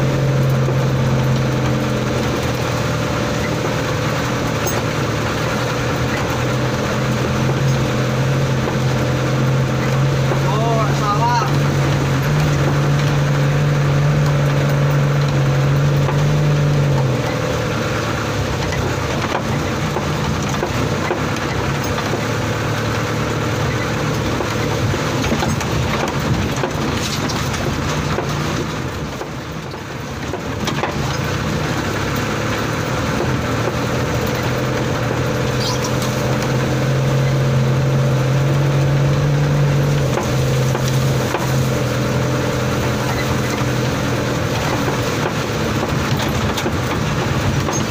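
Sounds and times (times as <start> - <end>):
truck cab clattering and creaking: 0.0 - 47.9
truck engine droning: 0.0 - 47.9.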